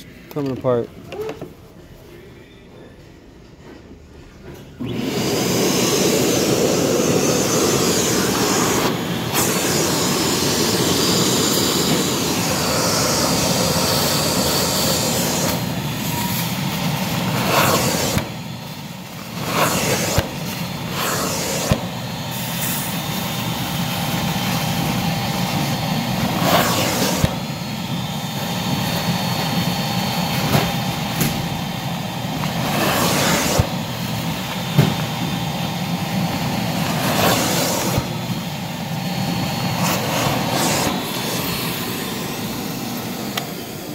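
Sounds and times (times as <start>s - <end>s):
carpet cleaner suction and spray: 4.8s - 43.9s.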